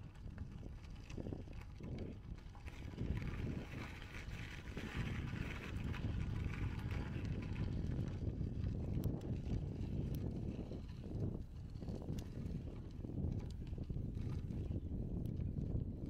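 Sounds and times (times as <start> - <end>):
bicycle tyres on gravel: 0.0 - 16.0
wind rumble on microphone: 0.0 - 16.0.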